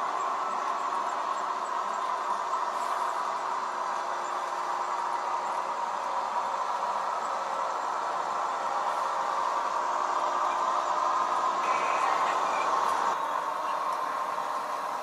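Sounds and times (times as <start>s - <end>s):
model train motor whirring: 0.0s - 15.0s.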